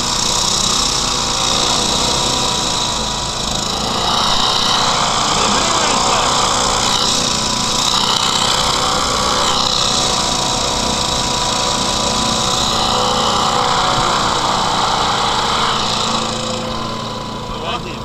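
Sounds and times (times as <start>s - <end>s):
hovercraft engine and propeller: 0.0s - 18.0s.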